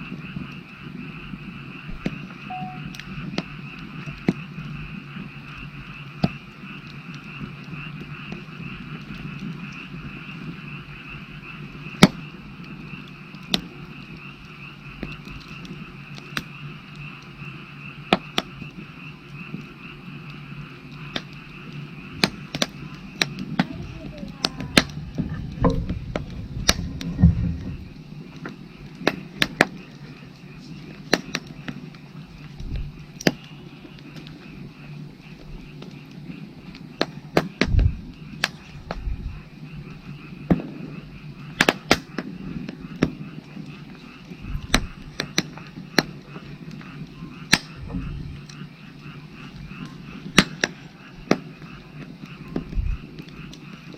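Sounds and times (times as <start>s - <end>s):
frogs calling: 0.0s - 53.9s
wood fire crackling and popping: 0.0s - 53.9s.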